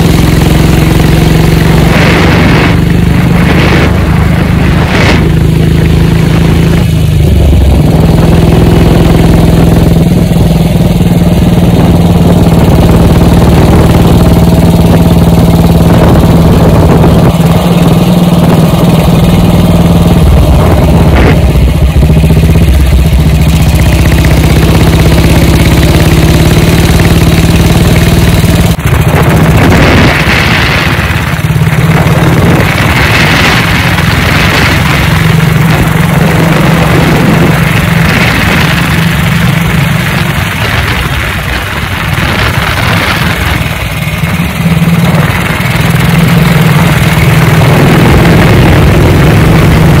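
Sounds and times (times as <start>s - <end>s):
motorcycle engine running: 0.0s - 50.0s
wind and road noise: 0.0s - 50.0s.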